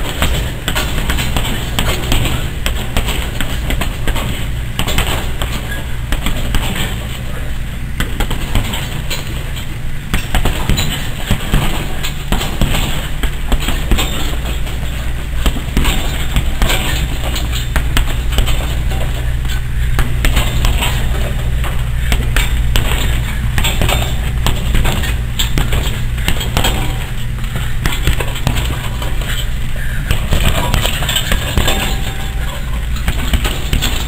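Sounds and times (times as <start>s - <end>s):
punches thudding into heavy bag: 0.0s - 7.2s, 8.0s - 19.3s, 19.9s - 29.4s, 30.1s - 32.4s, 33.0s - 34.0s
steady low hum: 0.0s - 34.0s.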